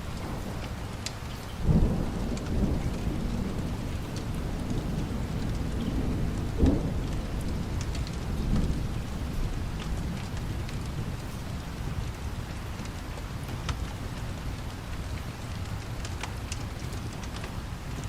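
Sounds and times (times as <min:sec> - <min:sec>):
light rain: 0:00.0 - 0:18.0
low rolling thunder: 0:00.0 - 0:18.0.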